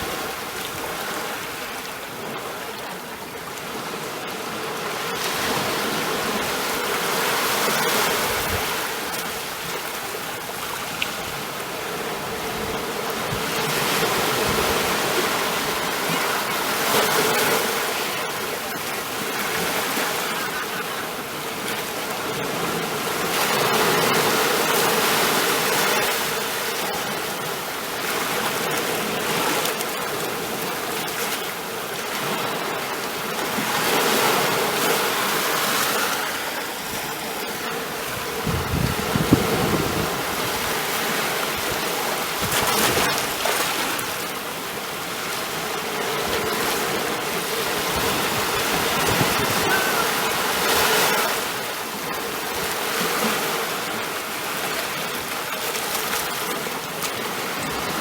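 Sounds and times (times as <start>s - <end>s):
ocean surf washing ashore: 0.0s - 58.0s.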